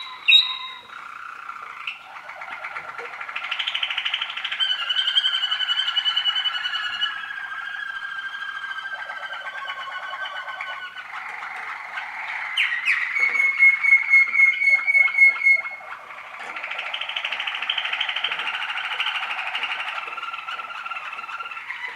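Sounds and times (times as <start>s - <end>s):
canaries trilling: 0.0s - 21.9s.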